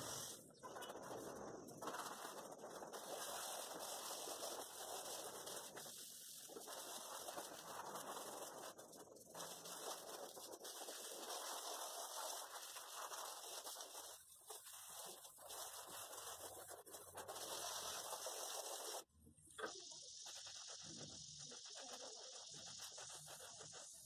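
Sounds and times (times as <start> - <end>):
hose spraying water: 0.0 - 24.0.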